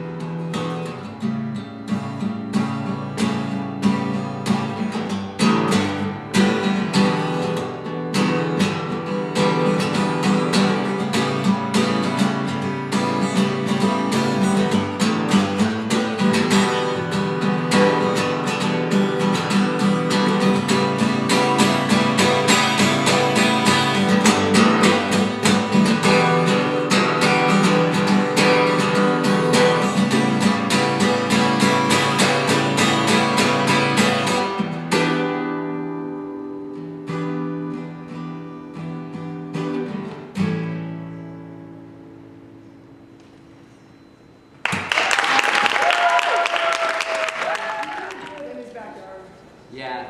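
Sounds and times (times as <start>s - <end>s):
acoustic guitar strumming: 0.0s - 45.0s.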